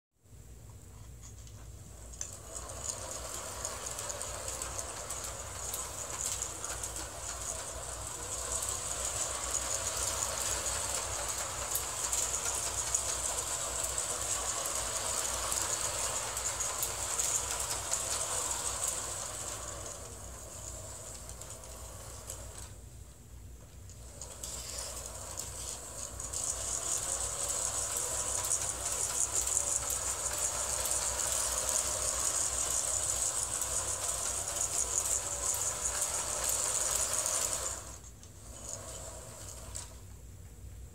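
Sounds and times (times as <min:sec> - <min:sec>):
toy train wheels rattling on track: 0:01.5 - 0:22.8, 0:23.8 - 0:40.1
small electric motor whirring: 0:02.0 - 0:22.8, 0:24.0 - 0:40.0.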